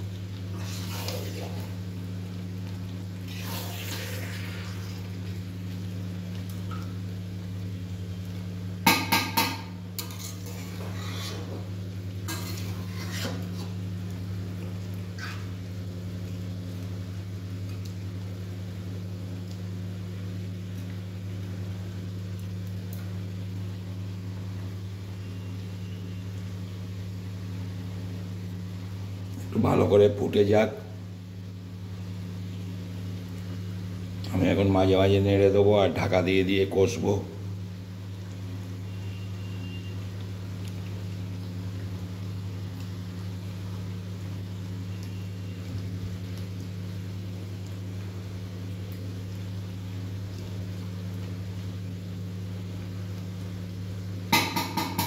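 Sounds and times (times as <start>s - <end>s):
curry bubbling in a pan: 0.0s - 29.6s, 37.2s - 55.0s
low electrical hum: 0.0s - 55.0s.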